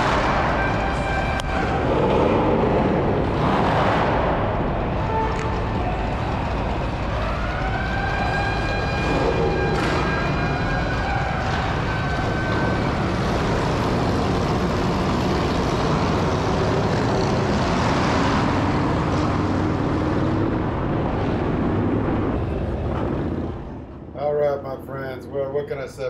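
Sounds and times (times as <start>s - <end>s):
motorcycle engines revving: 0.0s - 24.1s.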